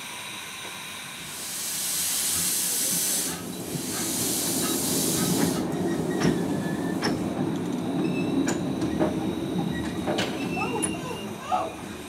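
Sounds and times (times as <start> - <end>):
steam locomotive hissing steam: 0.0 - 12.0
wheels clicking and squealing on rails: 2.0 - 12.0.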